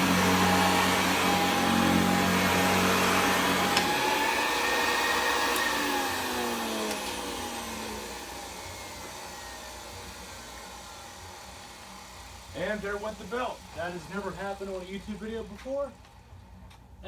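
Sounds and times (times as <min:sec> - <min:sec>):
vacuum cleaner motor whine: 0:00.0 - 0:15.6.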